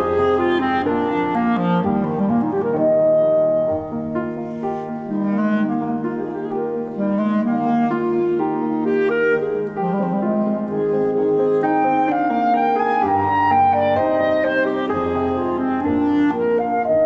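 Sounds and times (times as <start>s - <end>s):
clarinet melody: 0.0s - 17.0s
piano accompaniment: 0.0s - 17.0s.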